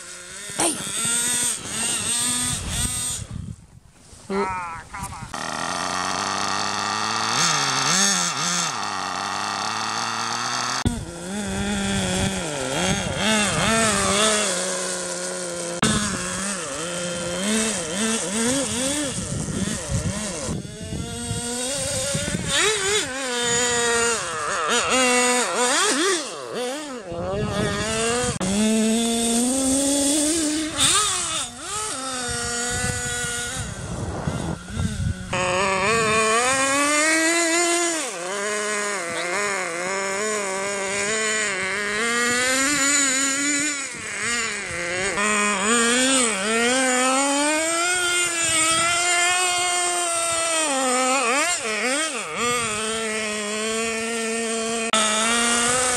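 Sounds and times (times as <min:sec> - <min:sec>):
small nitro engine revving: 0:00.0 - 0:55.9.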